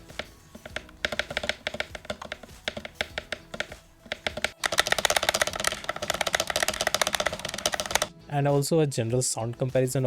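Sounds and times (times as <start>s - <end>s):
fast continuous typing: 0.0s - 8.1s
keyboard keystrokes: 0.0s - 8.1s.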